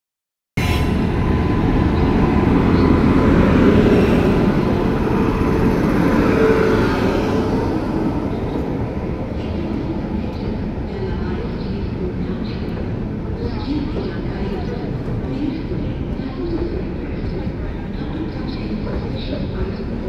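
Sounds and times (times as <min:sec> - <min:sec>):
train wheels rumbling on rail: 0:00.6 - 0:20.0.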